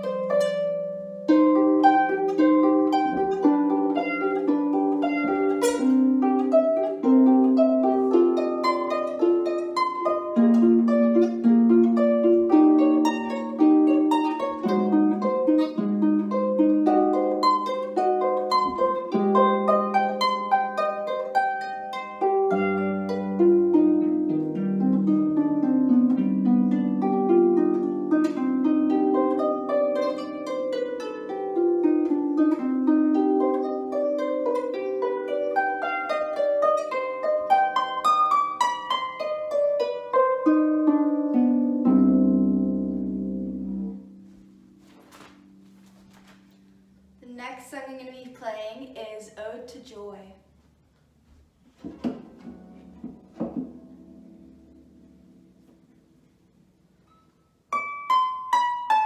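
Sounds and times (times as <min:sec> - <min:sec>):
harp playing solo: 0:00.0 - 0:47.7, 0:51.9 - 0:59.0.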